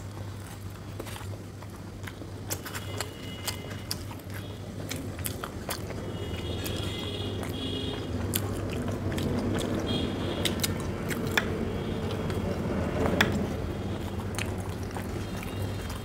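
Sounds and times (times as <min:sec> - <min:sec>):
close chewing and biting: 0:00.0 - 0:16.0
steady low hum: 0:00.0 - 0:16.0.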